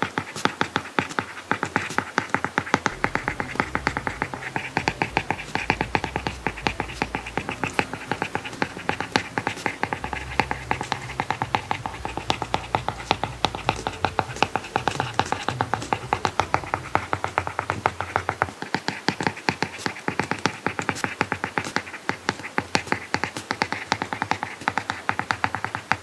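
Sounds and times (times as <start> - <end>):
quick clicking beat: 0.0 - 26.0
soft background music: 0.0 - 26.0.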